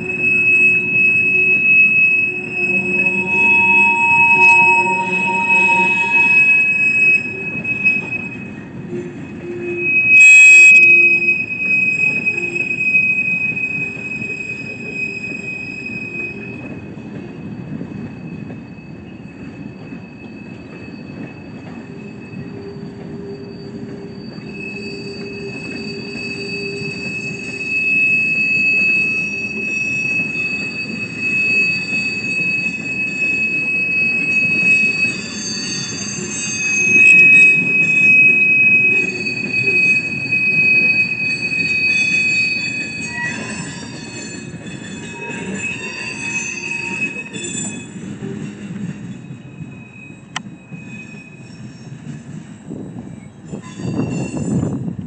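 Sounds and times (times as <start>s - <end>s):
train wheels rumbling on rails: 0.0s - 55.0s
wheel flange squeal: 0.0s - 55.0s.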